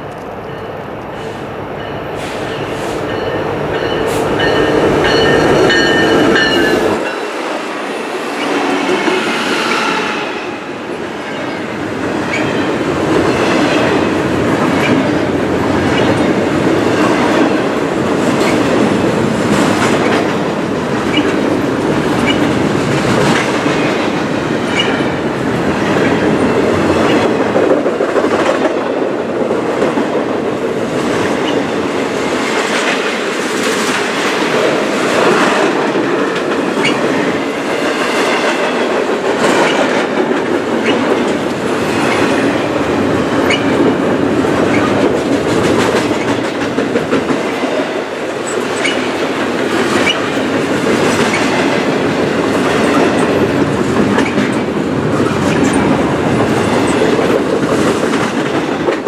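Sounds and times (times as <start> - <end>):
train wheels clickety-clack: 11.3 - 59.0.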